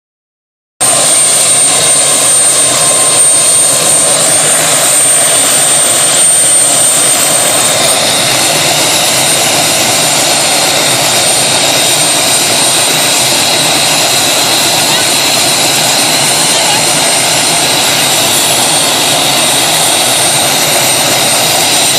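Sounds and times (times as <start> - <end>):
helicopter running: 0.8 - 21.9
high steady whine: 0.8 - 21.9.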